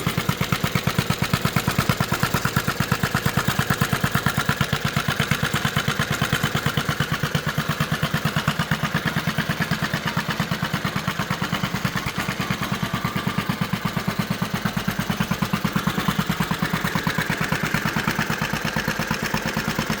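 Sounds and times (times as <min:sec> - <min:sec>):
mini bike engine idling: 0:00.0 - 0:20.0.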